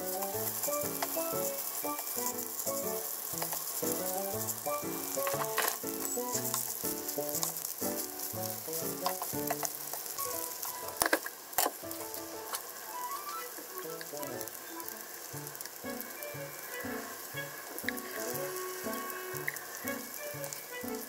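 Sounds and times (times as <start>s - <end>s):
noodles sizzling in oil: 0.0s - 21.0s.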